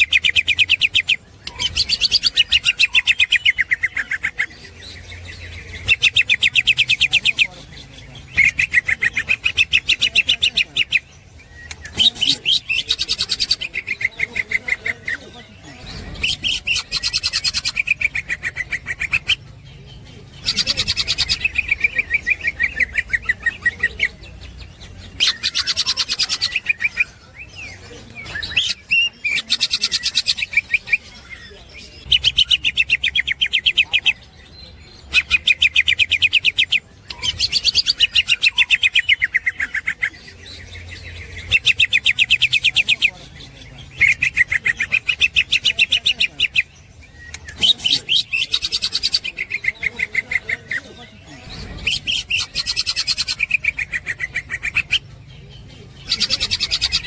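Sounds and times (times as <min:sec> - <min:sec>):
bird singing chattering song: 0:00.0 - 0:57.0.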